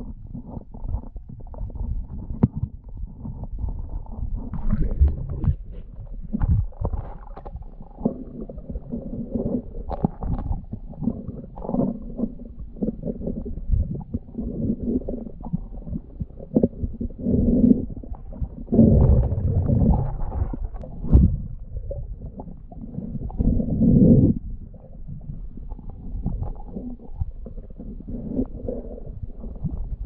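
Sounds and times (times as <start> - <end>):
underwater rumble of moving water: 0.0 - 30.0.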